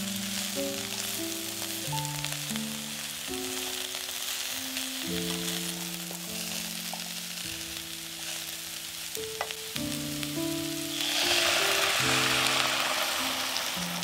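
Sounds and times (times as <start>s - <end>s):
soft background music: 0.0s - 14.0s
vegetables sizzling in a pot: 0.0s - 14.0s.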